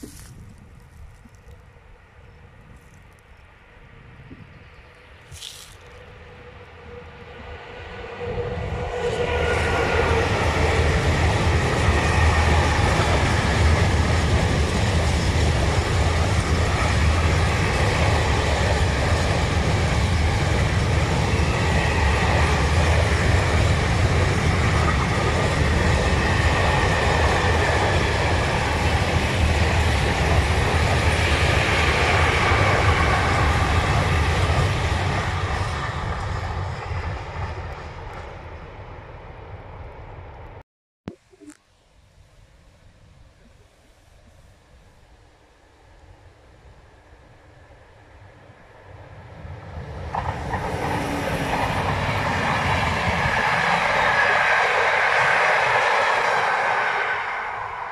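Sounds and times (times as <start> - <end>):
freight train wheels rumbling: 4.9 - 40.5, 47.0 - 57.9.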